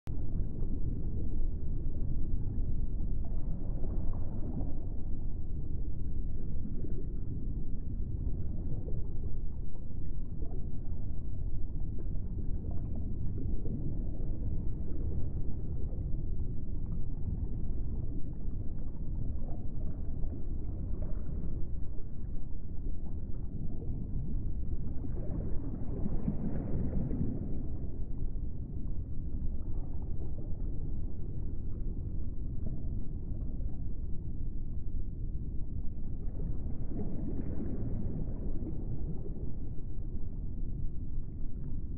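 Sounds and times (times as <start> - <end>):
low rumbling ambient drone: 0.0 - 41.9.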